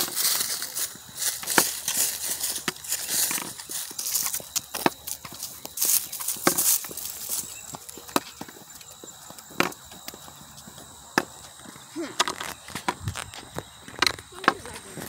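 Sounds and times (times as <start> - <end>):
footsteps on woodland path: 0.0 - 15.0.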